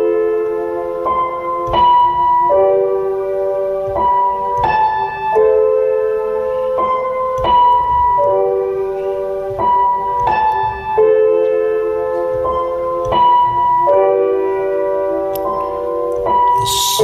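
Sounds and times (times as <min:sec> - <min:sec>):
slow piano-like keyboard music: 0:00.0 - 0:17.0.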